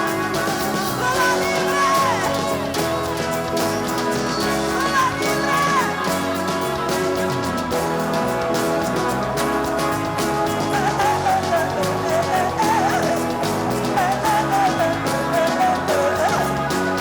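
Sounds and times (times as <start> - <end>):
bass line: 0.0 - 17.0
live band playing: 0.0 - 17.0
winding lead melody: 0.0 - 17.0.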